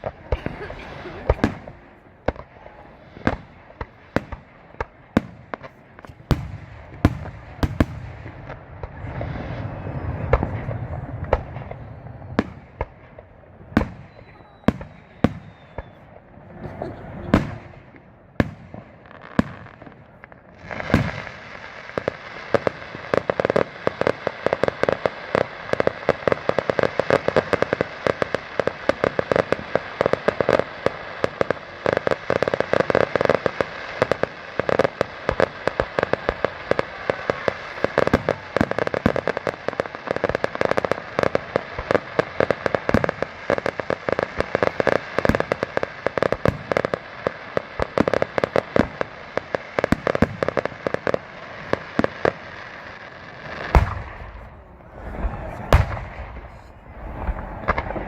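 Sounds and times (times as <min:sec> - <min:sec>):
firework bangs: 0:00.0 - 0:58.0
fireworks crackling: 0:00.0 - 0:58.0.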